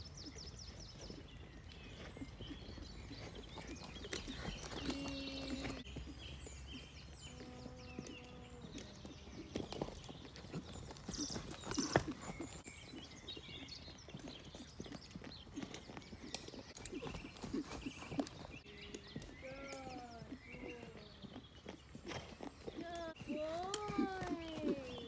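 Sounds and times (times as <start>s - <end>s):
horse hoofbeats on soft turf: 0.0s - 25.0s.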